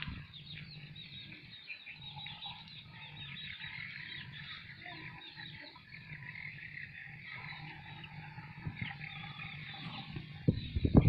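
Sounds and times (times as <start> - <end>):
chorus of small animal chirps: 0.0 - 11.0
low steady hum: 0.0 - 11.0.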